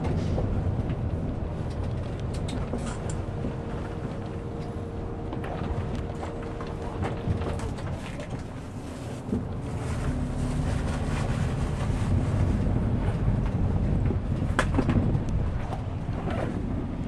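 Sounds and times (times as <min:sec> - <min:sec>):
bus body clicks and rattles: 0:00.0 - 0:17.0
bus engine and road noise: 0:00.0 - 0:17.0
low engine hum: 0:00.0 - 0:17.0.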